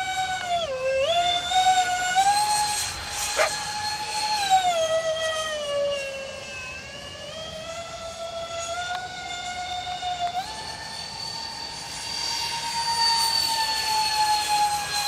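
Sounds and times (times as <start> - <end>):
model jet fan whine: 0.0 - 15.0.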